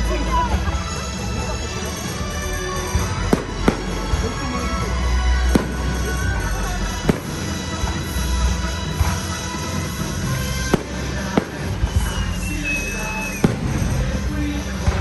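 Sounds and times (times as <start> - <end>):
fireworks crackling: 0.0 - 15.0
loud music: 0.0 - 15.0
firework shells bursting: 1.9 - 15.0.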